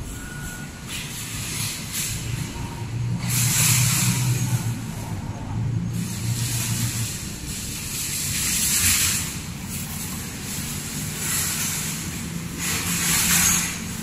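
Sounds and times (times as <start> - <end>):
shopping trolley rattling: 0.0 - 4.9, 5.9 - 14.0.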